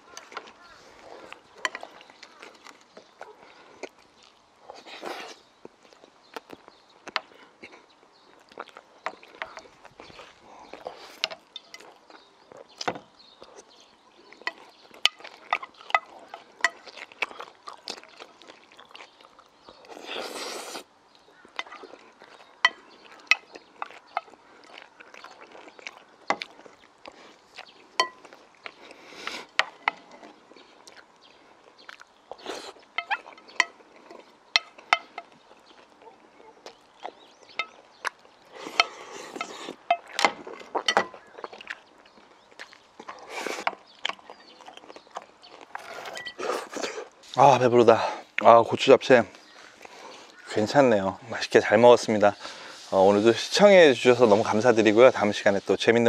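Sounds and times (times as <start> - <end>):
slurping: 0.0 - 50.7, 51.5 - 56.0
chewing and mouth sounds: 0.0 - 56.0.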